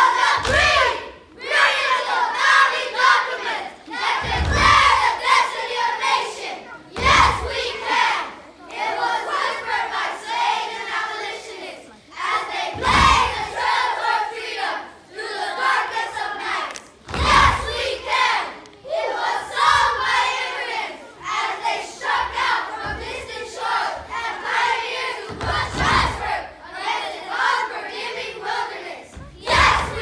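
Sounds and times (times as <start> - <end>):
children chanting in unison: 0.0 - 30.0.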